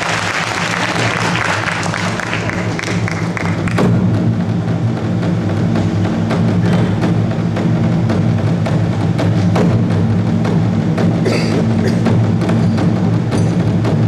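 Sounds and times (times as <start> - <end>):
percussion strikes: 0.0 - 14.0
steady low drone: 0.0 - 14.0.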